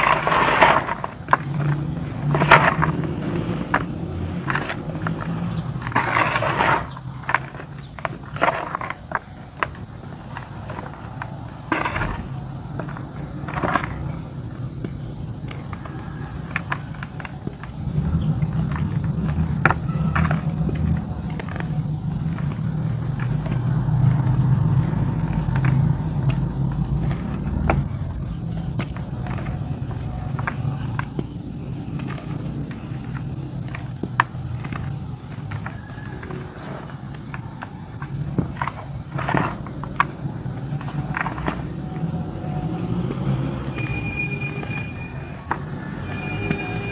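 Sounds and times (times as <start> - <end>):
dry clay crumbling and cracking: 0.0 - 46.9.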